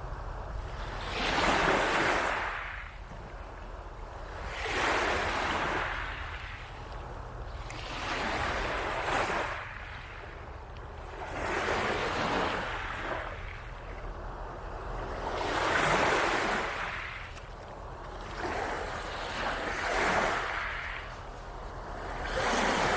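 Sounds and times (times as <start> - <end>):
waves washing onto beach: 0.0 - 22.9.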